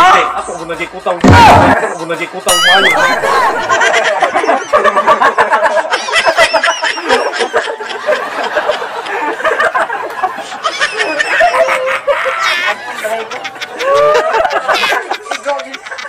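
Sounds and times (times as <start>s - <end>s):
group of people laughing: 0.4s - 16.0s.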